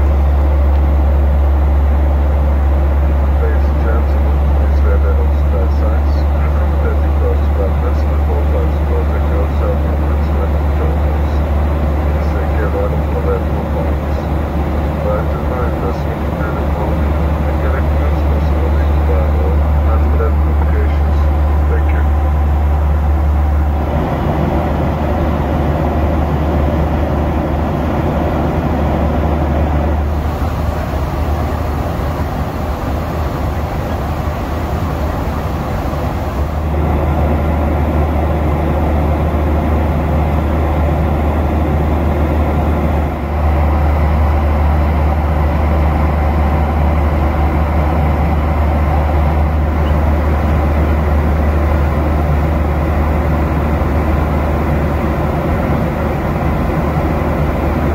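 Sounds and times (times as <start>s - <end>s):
airplane cabin drone: 0.0s - 57.9s.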